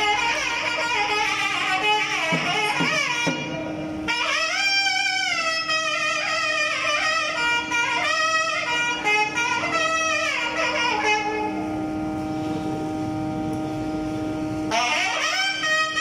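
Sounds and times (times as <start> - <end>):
clarinets and trumpet playing: 0.0 - 11.7, 14.7 - 16.0.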